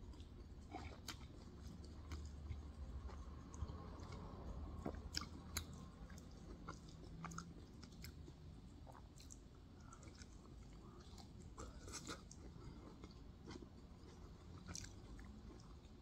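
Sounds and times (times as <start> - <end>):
person chewing with mouth clicks: 0.1 - 15.8.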